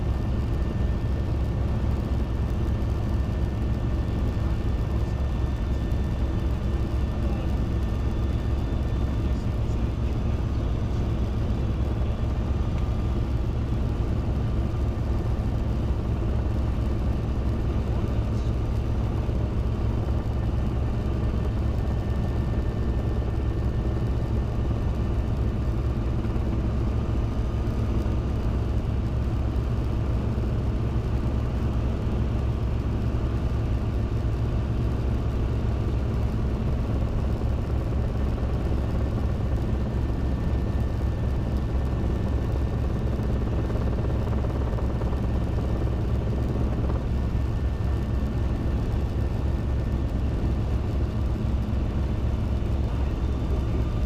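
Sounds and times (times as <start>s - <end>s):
helicopter engine and rotors droning: 0.0s - 54.0s.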